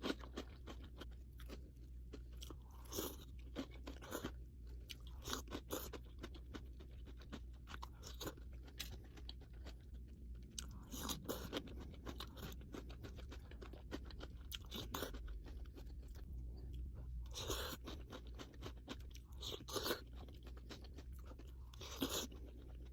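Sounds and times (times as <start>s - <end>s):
person chewing crunchy food: 0.0s - 22.9s
steady low hum: 0.0s - 22.9s.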